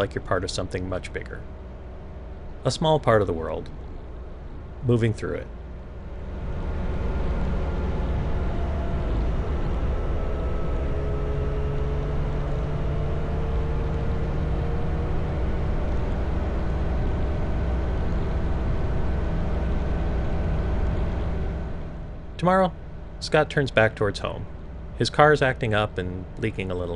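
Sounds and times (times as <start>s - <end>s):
motorcycle engine running: 0.0s - 23.3s.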